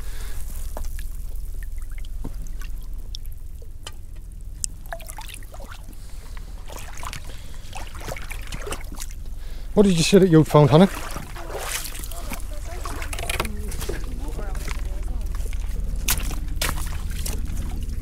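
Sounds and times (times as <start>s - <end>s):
steady low rumble: 0.0s - 18.0s
water trickling and splashing: 0.0s - 18.0s.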